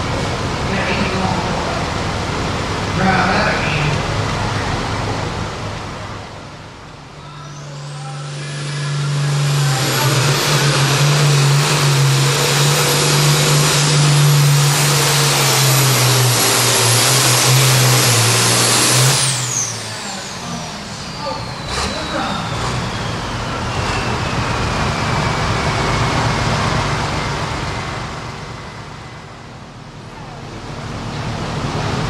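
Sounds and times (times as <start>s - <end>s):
diesel tractor engine at full throttle: 0.0s - 32.0s.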